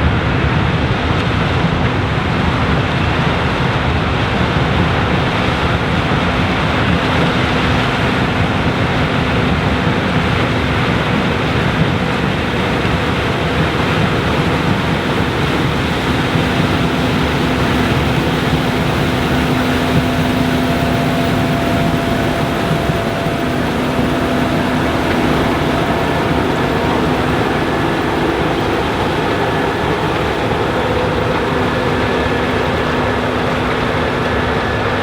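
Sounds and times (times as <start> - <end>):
combine harvester running: 0.0 - 35.0
faint steady hum: 4.2 - 35.0.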